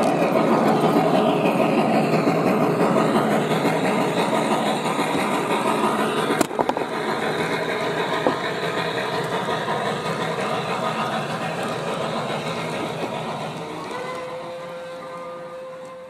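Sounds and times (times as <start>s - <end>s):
model train wheels rumbling: 0.0s - 16.0s.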